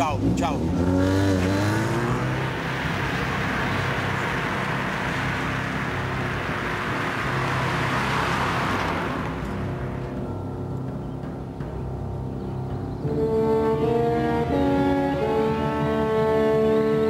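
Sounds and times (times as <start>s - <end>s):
car engine hum and tyre noise: 0.0s - 17.0s.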